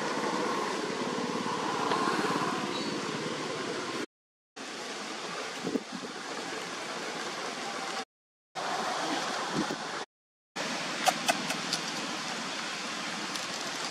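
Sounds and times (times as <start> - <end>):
outdoor background hiss: 0.0 - 8.0, 10.6 - 13.9.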